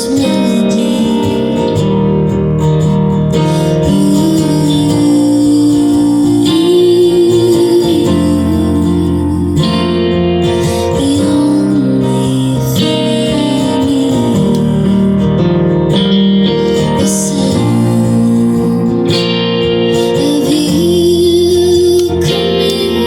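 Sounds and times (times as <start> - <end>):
live band with acoustic guitar: 0.0 - 23.0.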